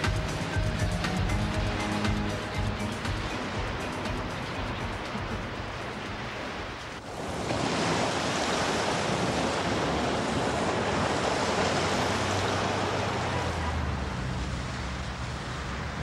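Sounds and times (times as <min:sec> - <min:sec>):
sea surf washing on shore: 0:00.0 - 0:16.0.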